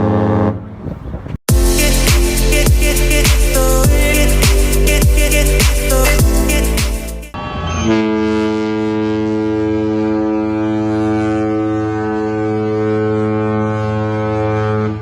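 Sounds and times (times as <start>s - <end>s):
ship horn blast: 0.0s - 0.8s, 1.5s - 5.6s, 6.2s - 15.0s.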